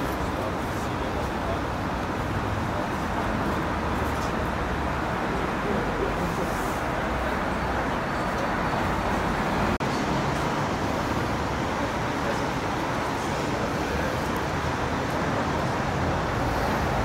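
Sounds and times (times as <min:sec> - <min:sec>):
people's voices: 0:00.0 - 0:17.0
street traffic: 0:00.0 - 0:17.0.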